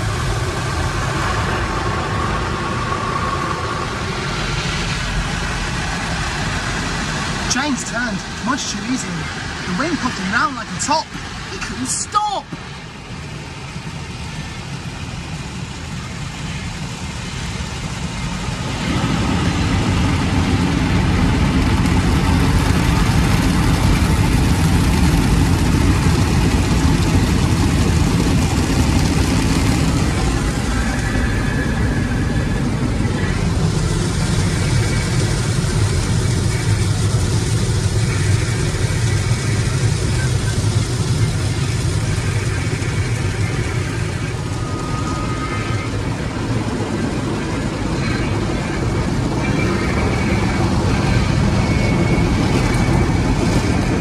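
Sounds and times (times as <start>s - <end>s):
car wash brushes rumbling: 0.0s - 54.0s.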